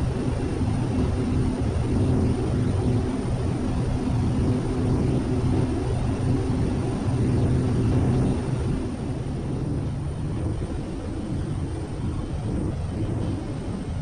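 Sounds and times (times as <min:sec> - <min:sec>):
turboprop engine drone in cockpit: 0:00.0 - 0:14.0.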